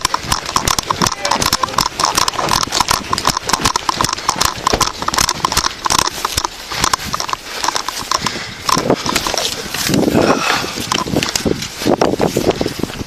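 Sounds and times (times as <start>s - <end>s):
metal gear jingling: 0.0s - 11.6s
hurried footsteps: 0.0s - 13.0s.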